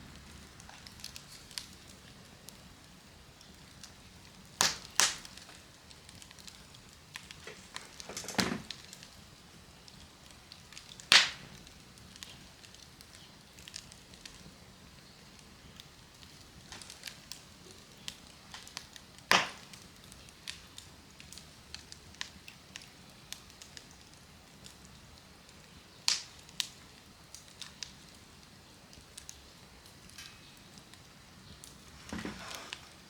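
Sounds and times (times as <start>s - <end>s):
campfire crackling: 0.0s - 33.0s
loud sharp fire snaps: 0.0s - 33.0s.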